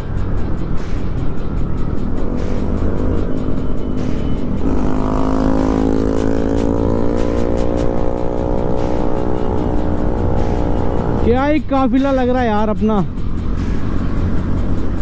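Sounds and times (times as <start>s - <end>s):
background music with quick beat: 0.0s - 15.0s
motorcycle engines rumbling: 0.0s - 15.0s.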